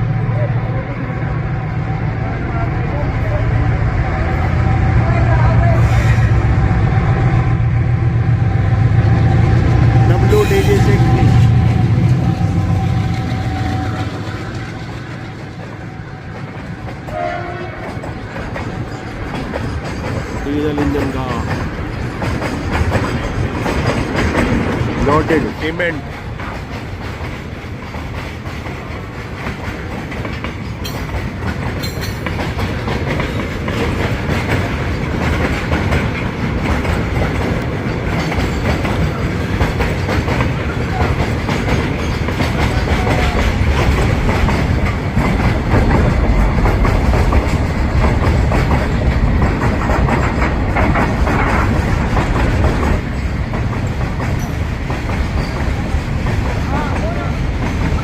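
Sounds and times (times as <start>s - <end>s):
train wheels clattering over rail joints: 11.3s - 58.0s.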